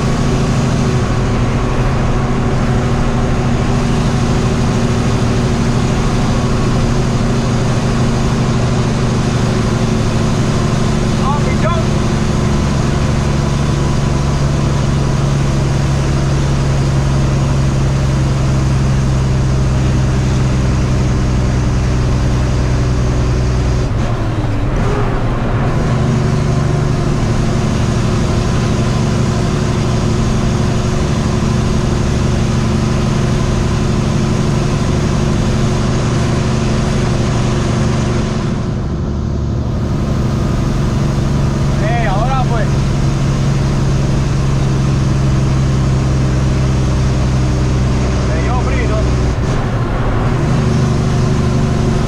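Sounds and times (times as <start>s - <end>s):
truck diesel engine running: 0.0s - 52.0s.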